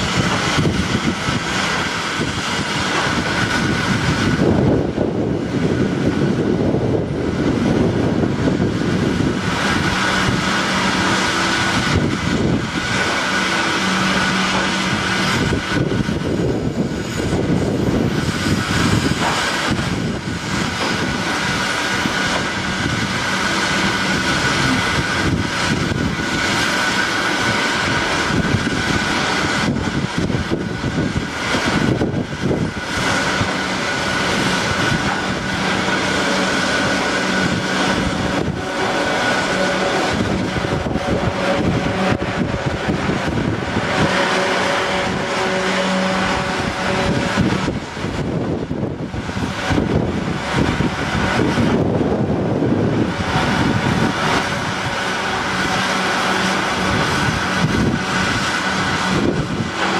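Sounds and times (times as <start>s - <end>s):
electric train hum and whine: 0.0s - 59.9s
train wheel rumble: 0.0s - 59.9s.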